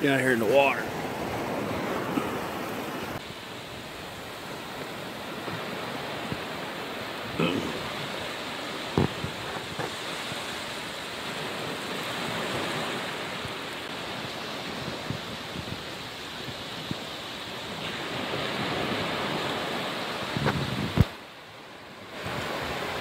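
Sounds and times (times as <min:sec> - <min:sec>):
surf washing over sand: 0:00.0 - 0:23.0.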